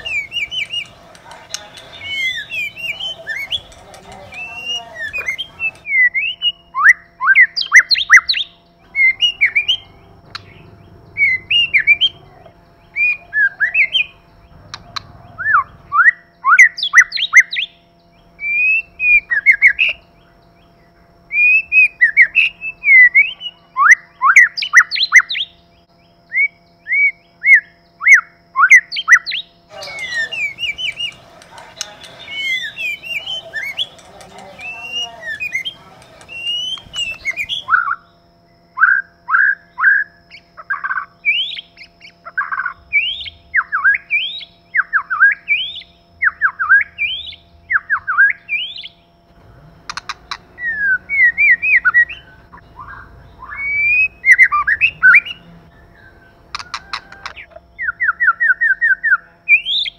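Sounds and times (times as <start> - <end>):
bird singing whistled phrases: 0.0 - 10.6, 12.9 - 14.5, 15.3 - 20.0, 21.3 - 25.6, 26.3 - 38.2, 38.8 - 49.1, 50.0 - 59.9
faint steady hum: 0.0 - 59.9.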